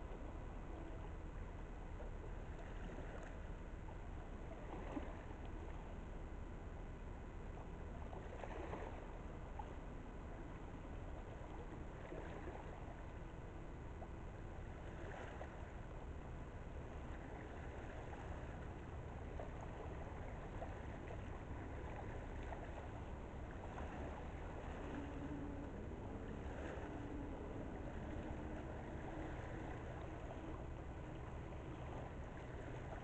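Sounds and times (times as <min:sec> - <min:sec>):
distant ship engine rumble: 0:00.0 - 0:33.0
water lapping at shore: 0:00.0 - 0:33.0.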